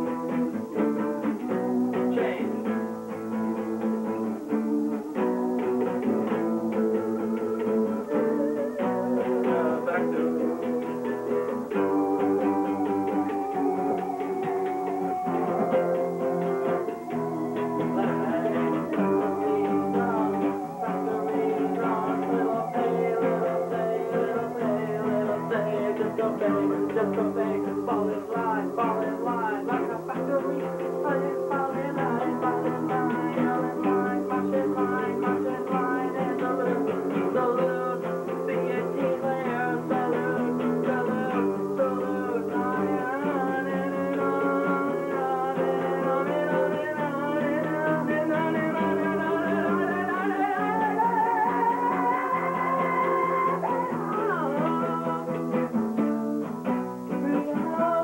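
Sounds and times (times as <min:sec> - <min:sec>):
guitar chords: 0:00.0 - 0:58.0
live music with electronic keyboard: 0:00.0 - 0:58.0.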